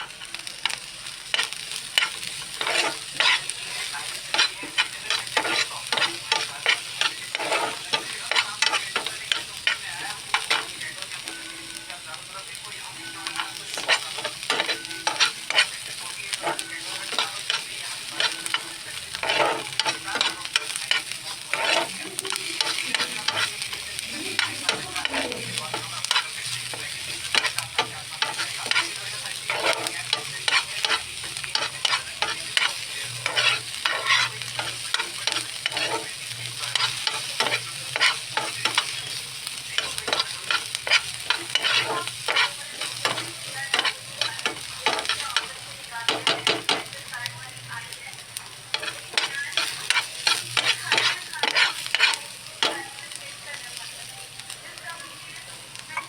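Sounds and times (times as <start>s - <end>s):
spatula scraping pan: 0.0s - 12.0s, 13.0s - 47.1s, 48.5s - 53.0s
potatoes sizzling in oil: 0.0s - 56.0s.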